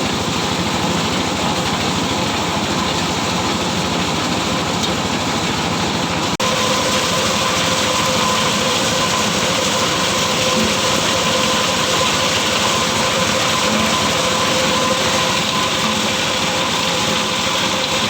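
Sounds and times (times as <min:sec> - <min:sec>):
motorised corn sheller running: 0:00.0 - 0:18.0.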